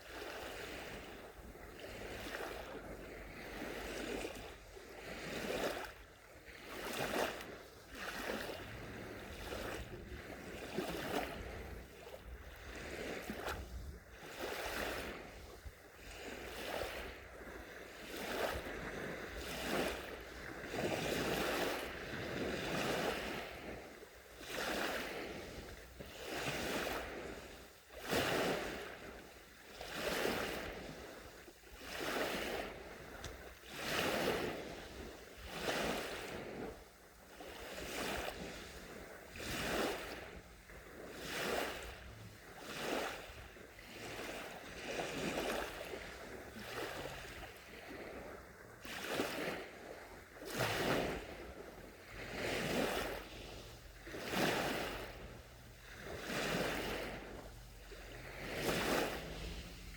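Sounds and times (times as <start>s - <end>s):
sea waves washing onto shore: 0.0s - 59.9s.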